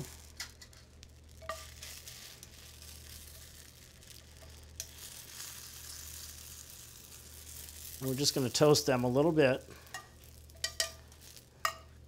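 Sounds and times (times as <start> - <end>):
croutons sizzling in butter: 0.0 - 12.0.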